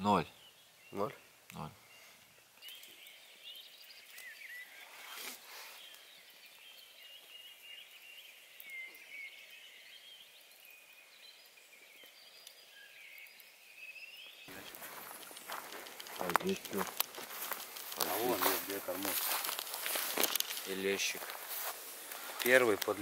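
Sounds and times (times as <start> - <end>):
birds chirping and warbling: 0.0 - 23.0.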